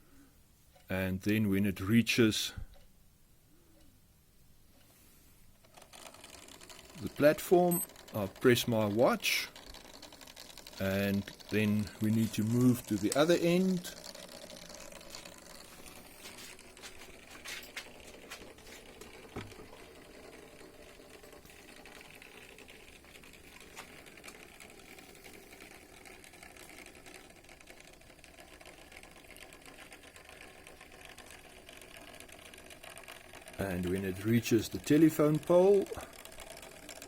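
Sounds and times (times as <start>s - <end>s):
model train motor hum: 5.6s - 37.0s.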